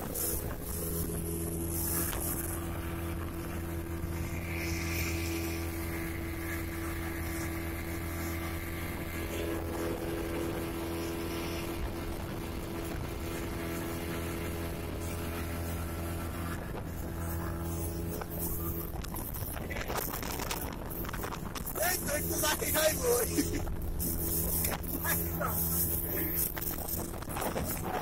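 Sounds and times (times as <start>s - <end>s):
motorboat engine running: 0.0s - 28.0s
water rushing along hull: 0.0s - 28.0s.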